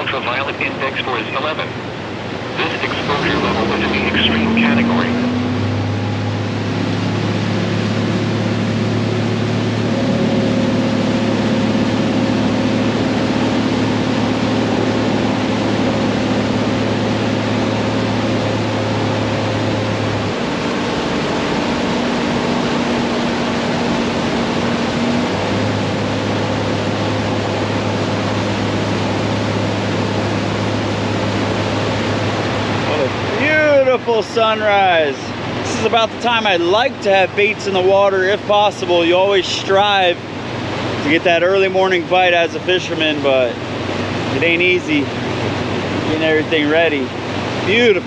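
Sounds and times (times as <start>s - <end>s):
outboard motor droning: 0.0s - 48.0s
wind and water rushing: 0.3s - 48.0s.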